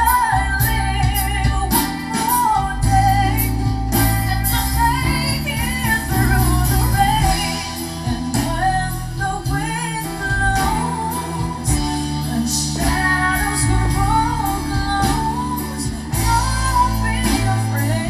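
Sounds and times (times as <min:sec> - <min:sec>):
acoustic guitar: 0:00.0 - 0:18.0
keyboard: 0:00.0 - 0:18.0
woman singing pop ballad: 0:00.0 - 0:18.0.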